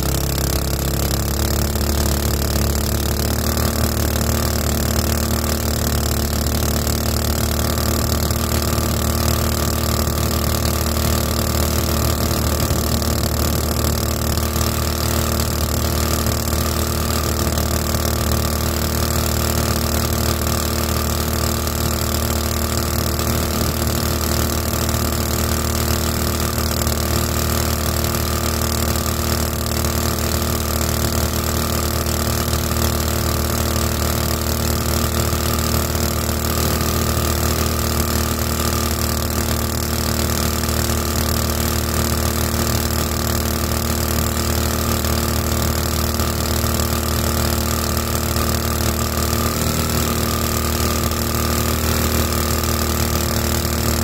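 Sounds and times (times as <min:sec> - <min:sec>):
boat motor running steadily: 0:00.0 - 0:54.0.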